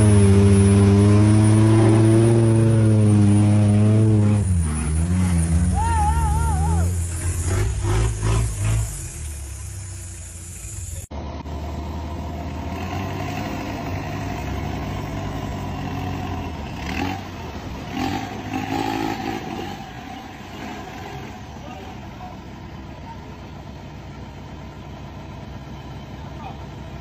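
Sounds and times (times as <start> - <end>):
off-road engines revving: 0.0 - 27.0.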